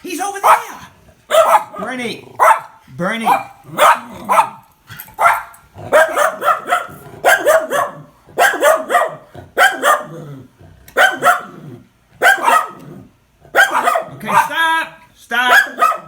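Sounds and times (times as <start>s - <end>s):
dogs barking: 0.4s - 14.6s, 15.4s - 16.0s.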